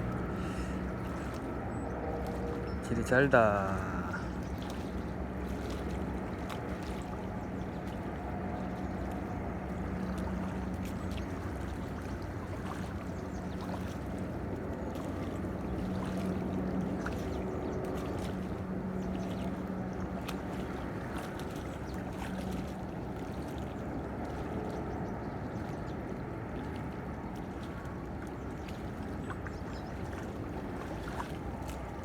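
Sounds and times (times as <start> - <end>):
boat engine hum: 0.0 - 32.0
water wash: 0.0 - 32.0.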